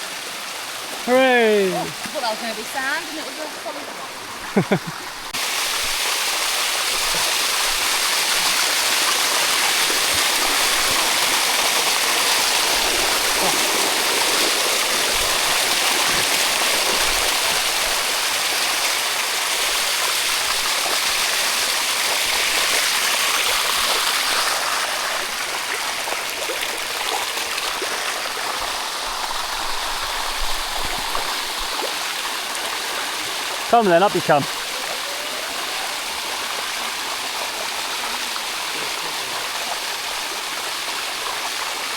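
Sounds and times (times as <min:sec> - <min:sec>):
waterfall rushing over rock: 0:00.0 - 0:41.9.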